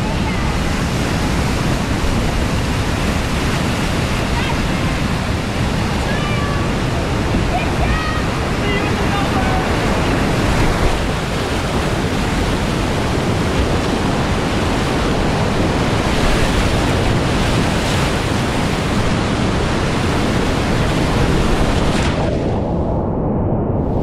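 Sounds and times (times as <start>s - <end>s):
whitewater rapids rushing: 0.0s - 22.4s.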